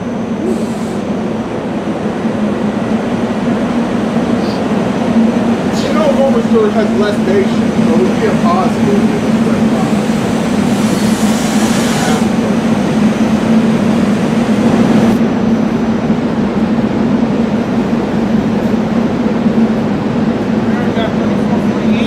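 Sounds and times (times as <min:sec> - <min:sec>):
electric train humming: 0:00.0 - 0:22.0
train rushing noise: 0:00.0 - 0:22.0.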